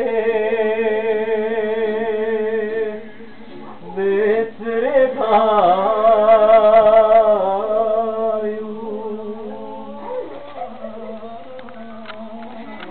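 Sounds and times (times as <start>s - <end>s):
man singing with vibrato: 0.0s - 3.2s, 3.8s - 12.9s.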